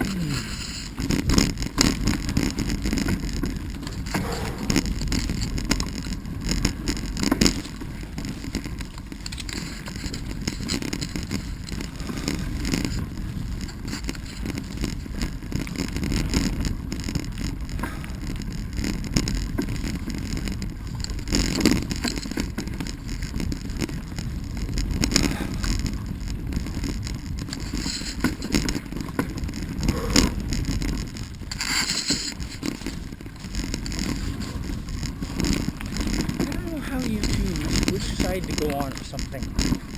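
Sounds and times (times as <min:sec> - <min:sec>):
wheels knocking on roots: 0:00.0 - 0:39.9
wheels rolling on dirt trail: 0:00.0 - 0:39.9.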